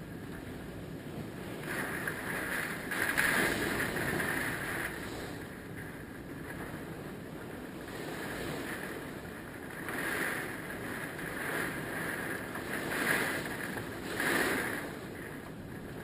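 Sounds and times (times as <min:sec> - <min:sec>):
hurricane wind gusting: 0:00.0 - 0:16.0.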